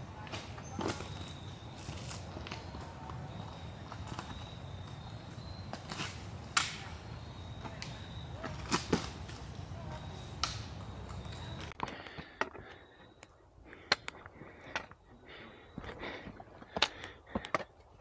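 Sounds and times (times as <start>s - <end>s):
footsteps on rocky trail: 0.0s - 18.0s.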